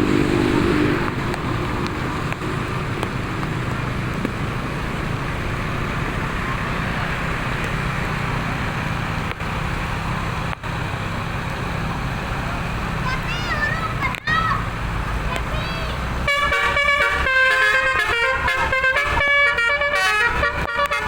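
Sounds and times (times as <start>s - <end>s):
large vehicle engine running: 0.0s - 21.0s.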